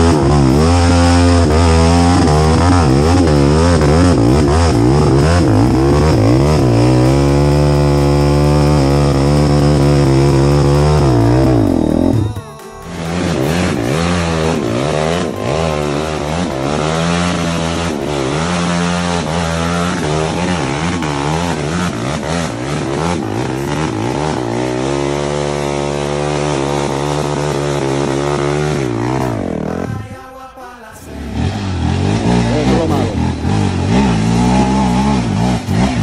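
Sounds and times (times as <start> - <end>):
atv engine revving: 0.0 - 30.3, 30.9 - 36.0.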